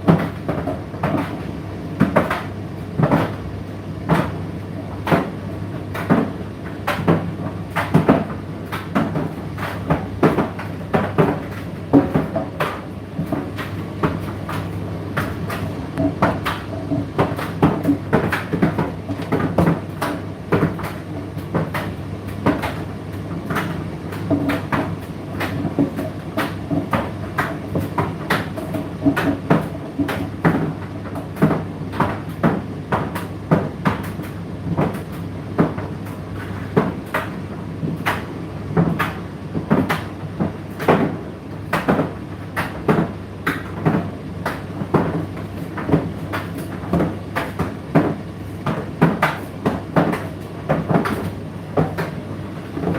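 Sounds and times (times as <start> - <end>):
tumble dryer motor hum: 0.0 - 52.9.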